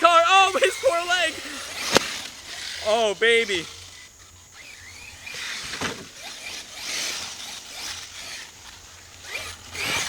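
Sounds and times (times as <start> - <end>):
rc truck tyre and drivetrain noise: 0.0 - 10.0.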